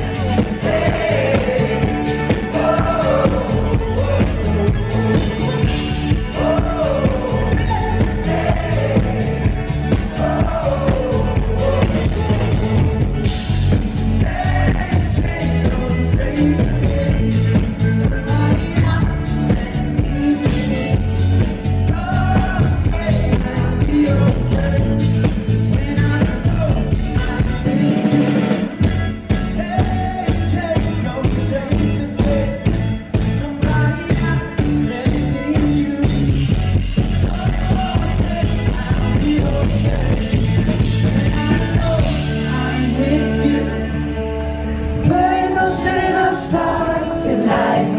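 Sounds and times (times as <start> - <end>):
man singing into a microphone: 0.0 - 13.2, 14.2 - 28.8, 29.4 - 44.3, 44.9 - 47.9
drums: 0.0 - 47.9
guitar: 0.0 - 47.9.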